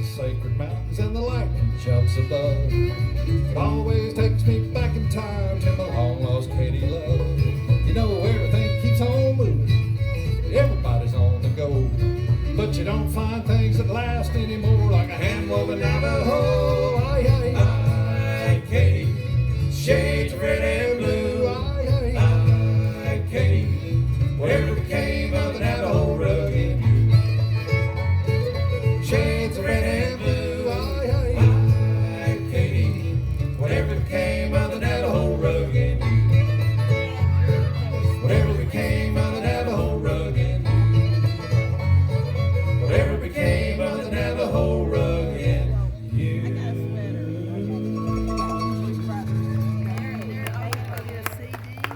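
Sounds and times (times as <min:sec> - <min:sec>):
banjo: 0:00.0 - 0:51.3
fiddle: 0:00.0 - 0:51.9
guitar: 0:00.0 - 0:51.9
bass beat: 0:00.4 - 0:50.4.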